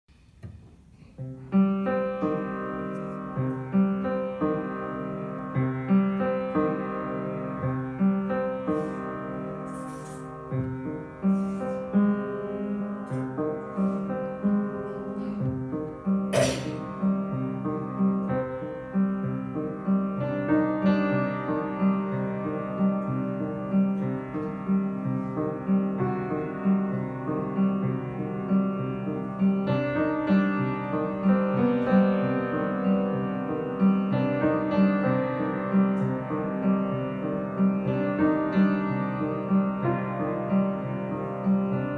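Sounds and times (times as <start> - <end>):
slow sad piano piece: 0.2 - 41.9.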